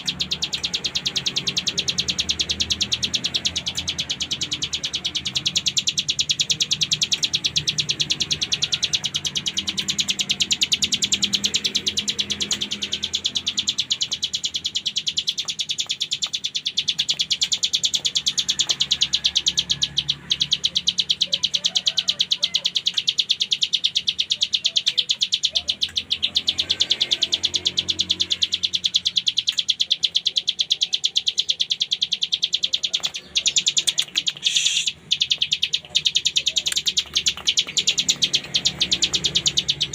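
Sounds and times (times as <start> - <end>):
songbird rattling trill: 0.0 - 39.9.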